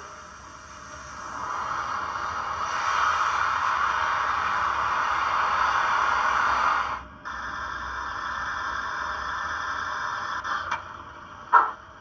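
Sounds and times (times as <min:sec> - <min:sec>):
steam hiss from speaker: 0:00.0 - 0:10.7.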